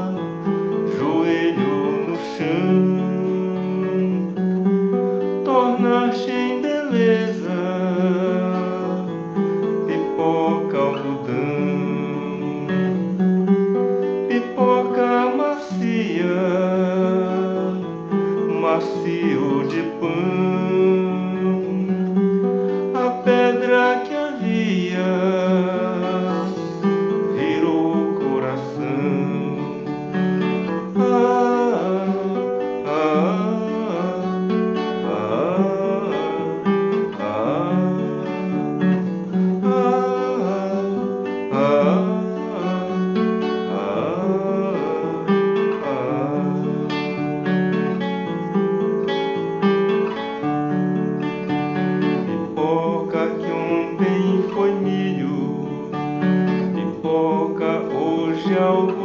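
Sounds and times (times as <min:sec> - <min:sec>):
man singing: 0:00.0 - 0:13.2, 0:14.0 - 0:47.4, 0:51.8 - 0:59.0
classical guitar playing: 0:00.0 - 0:59.0.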